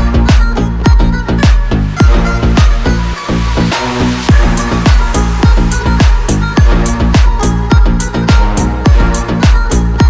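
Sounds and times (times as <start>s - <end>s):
heavy kick drum: 0.0s - 10.0s
hi-hats: 0.0s - 10.0s
sustained synth bass: 0.0s - 10.0s.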